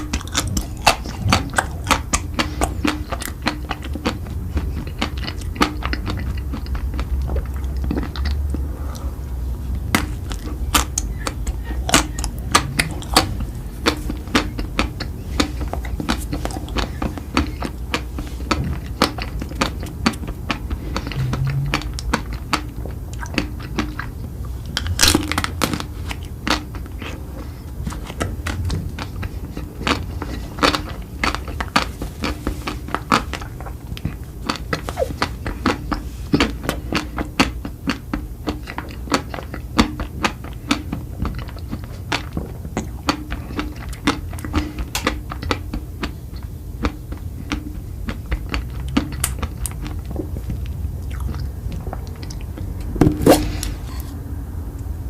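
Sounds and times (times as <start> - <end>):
food crunching while chewed: 0.0 - 54.8.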